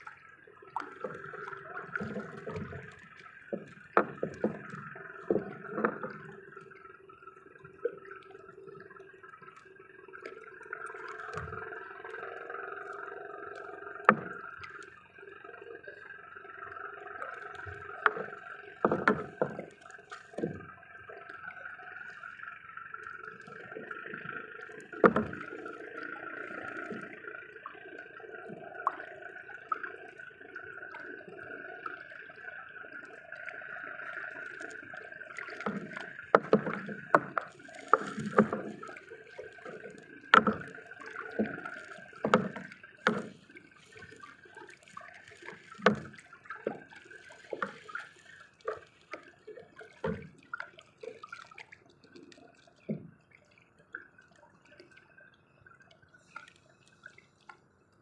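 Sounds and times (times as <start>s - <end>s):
water splashing and dripping: 0.0s - 57.8s.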